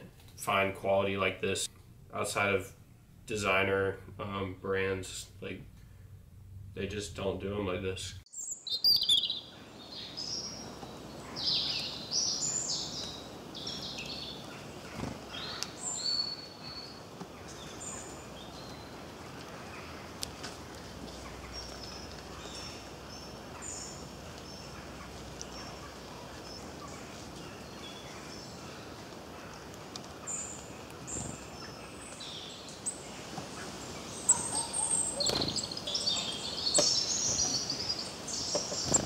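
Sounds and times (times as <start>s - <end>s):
outdoor background hiss: 0.0s - 39.0s
birds chirping: 6.8s - 39.0s.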